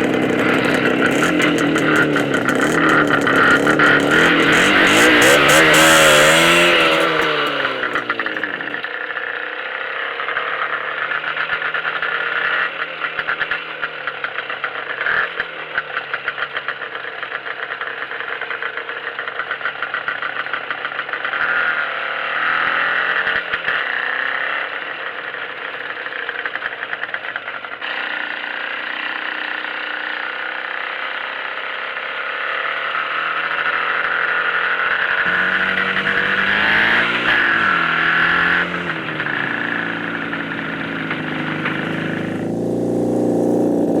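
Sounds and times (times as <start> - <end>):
motorcycle engine idling and revving: 0.0 - 44.0.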